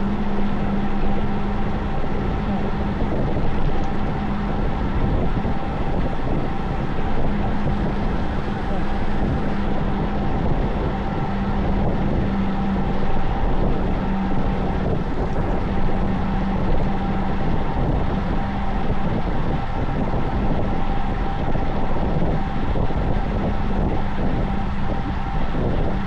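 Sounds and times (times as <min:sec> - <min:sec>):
bicycle road noise: 0:00.0 - 0:26.0
low hum: 0:00.0 - 0:26.0.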